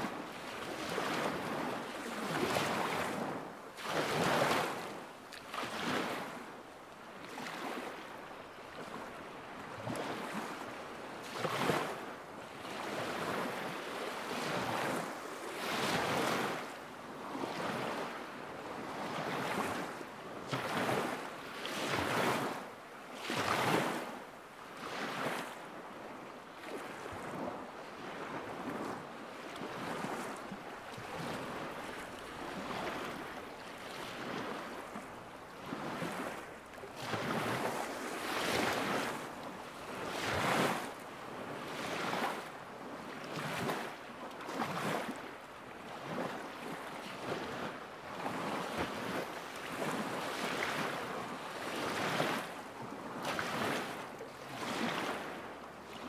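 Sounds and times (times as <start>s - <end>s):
waves lapping against shore: 0.0s - 56.0s.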